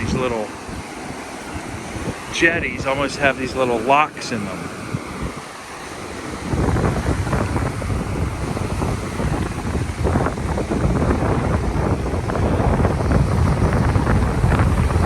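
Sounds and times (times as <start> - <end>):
surf washing: 0.0 - 15.0
wind buffeting microphone: 0.0 - 15.0.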